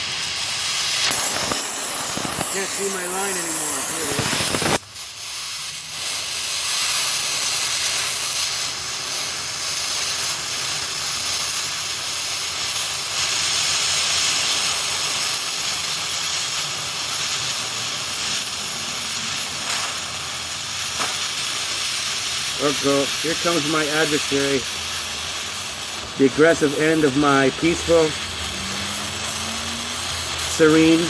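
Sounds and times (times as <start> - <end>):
plasma torch hissing: 0.0 - 31.0.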